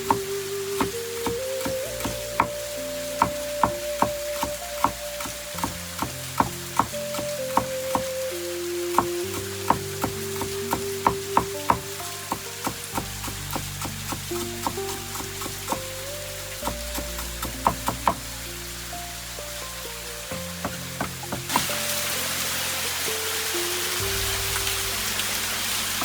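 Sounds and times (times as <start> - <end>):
instrumental music of held notes: 0.0 - 26.0.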